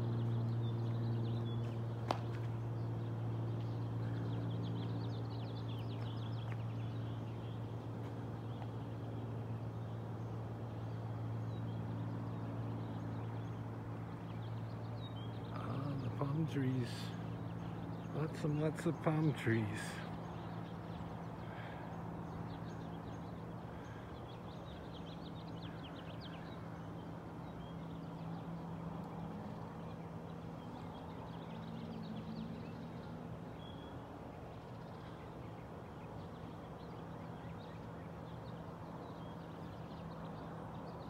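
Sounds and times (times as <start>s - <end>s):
distant birds chirping: 0.0s - 41.0s
low outdoor hum: 0.0s - 41.0s.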